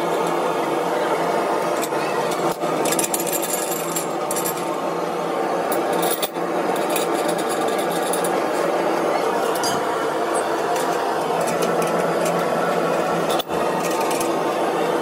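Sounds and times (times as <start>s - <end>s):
machine rattling hum: 0.0s - 15.0s.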